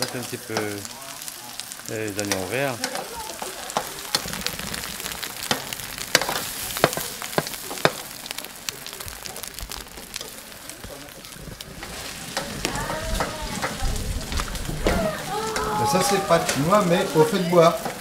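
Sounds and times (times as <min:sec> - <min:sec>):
eggs sizzling in hot oil: 0:00.0 - 0:18.0.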